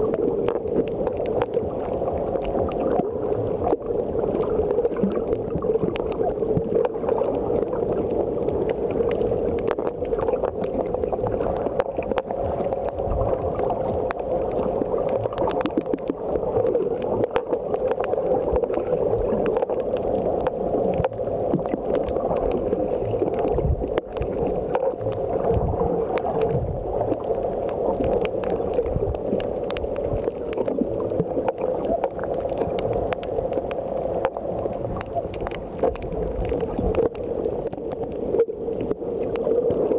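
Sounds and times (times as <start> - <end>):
constant underwater hum: 0.0 - 39.9
small clicks and crackles: 0.0 - 39.9
underwater watery rush: 0.0 - 39.9.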